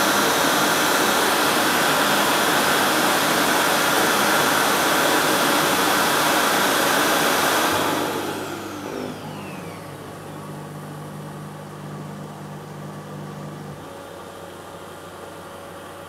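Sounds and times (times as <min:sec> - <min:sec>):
suction motor rushing and winding down: 0:00.0 - 0:13.8.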